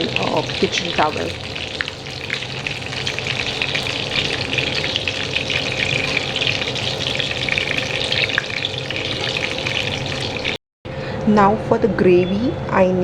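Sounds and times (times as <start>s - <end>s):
chicken deep-frying in oil: 0.0s - 10.6s.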